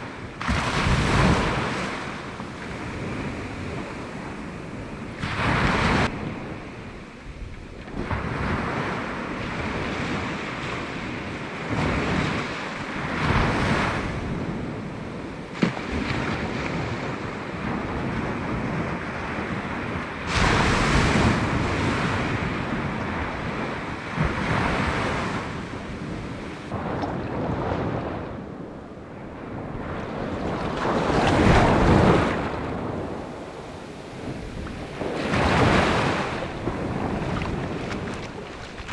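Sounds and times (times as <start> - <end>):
sea waves breaking: 0.0 - 38.9
wind buffeting microphone: 0.0 - 38.9.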